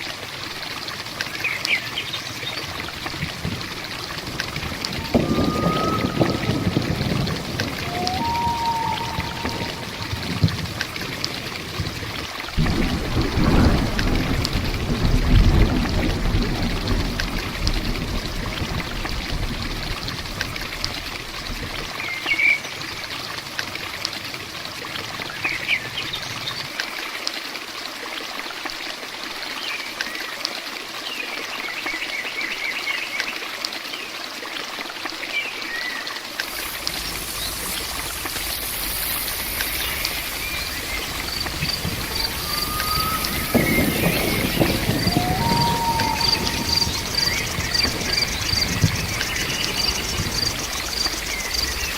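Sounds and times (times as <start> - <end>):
water trickling: 0.0 - 25.2, 33.4 - 51.9
steady rain: 0.0 - 51.9.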